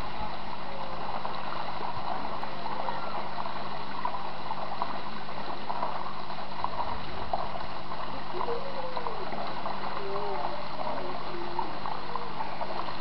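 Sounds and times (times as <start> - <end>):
steady rushing water-like noise: 0.0 - 13.0.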